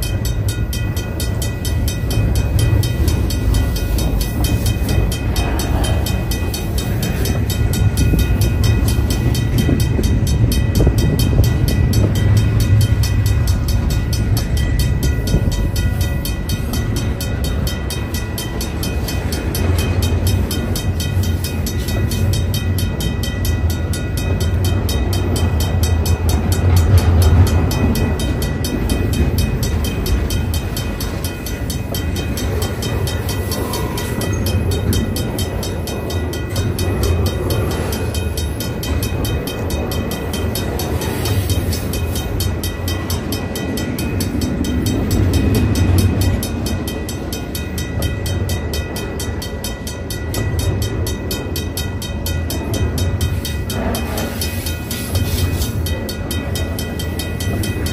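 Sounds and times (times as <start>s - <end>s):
steel wheels rumbling on rail: 0.0s - 57.9s.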